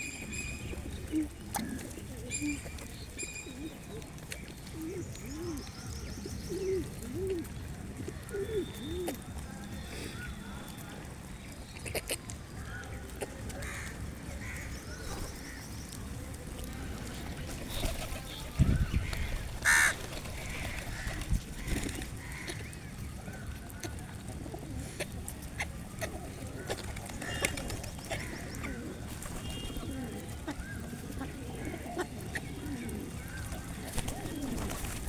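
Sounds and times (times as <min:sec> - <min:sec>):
flock of birds calling: 0:00.0 - 0:35.0.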